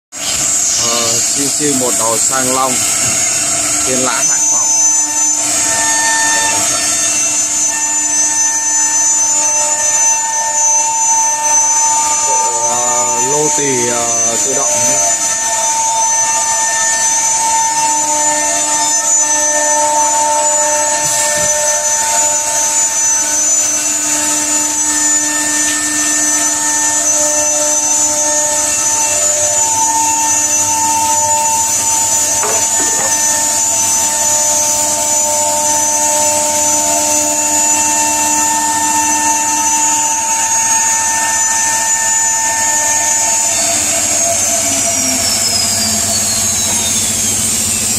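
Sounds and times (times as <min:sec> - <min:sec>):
router spindle high whine: 0:00.1 - 0:47.9
axis motor tones: 0:00.2 - 0:47.9
router bit rasping in wood: 0:00.2 - 0:47.9.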